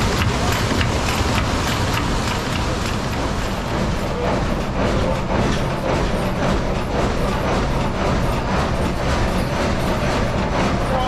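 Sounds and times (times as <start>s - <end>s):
sawmill machinery rumbling and rattling: 0.0s - 11.0s.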